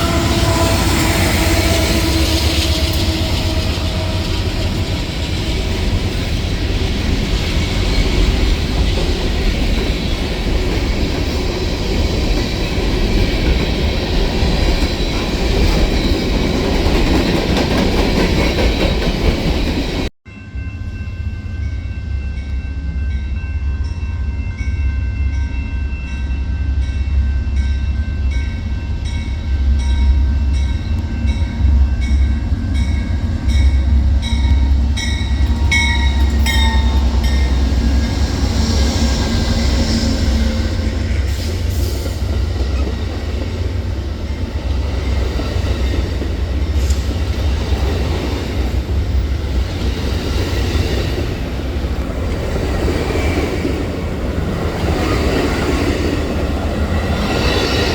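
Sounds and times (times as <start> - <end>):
train wheels rumbling on rail: 0.0 - 20.1, 24.6 - 57.9.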